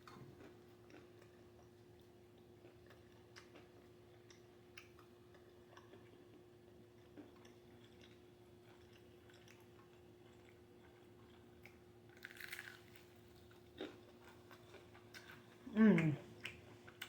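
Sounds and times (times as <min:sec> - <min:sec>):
faint steady hum: 0:00.0 - 0:17.0
chewing with mouth clicks: 0:00.1 - 0:17.0.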